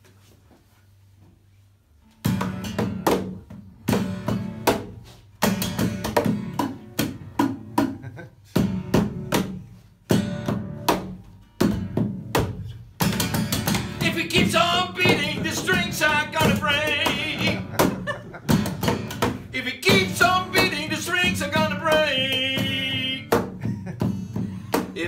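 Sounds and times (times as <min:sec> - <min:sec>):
acoustic guitar strumming: 0:02.2 - 0:25.0
hand slapping guitar body: 0:02.2 - 0:25.0.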